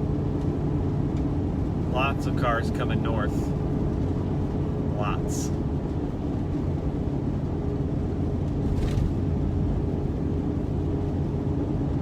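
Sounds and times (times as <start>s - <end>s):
engine and tyre noise in cabin: 0.0s - 12.0s.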